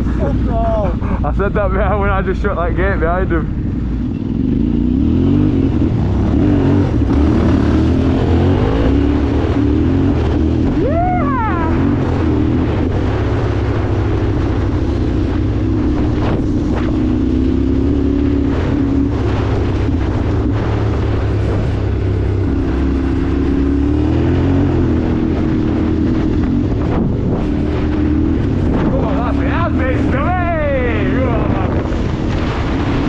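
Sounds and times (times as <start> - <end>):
wind noise on microphone: 3.5 - 33.0.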